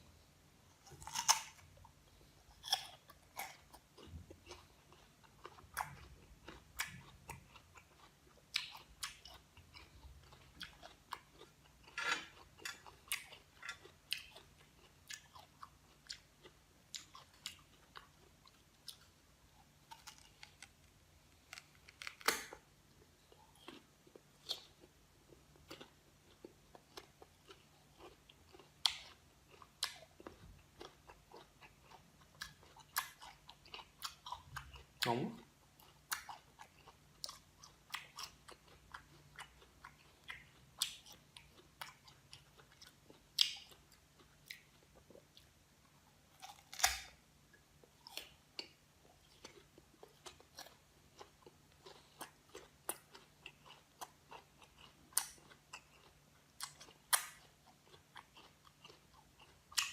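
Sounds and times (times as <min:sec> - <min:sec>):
person chewing crunchy fruit: 0:00.7 - 0:59.9.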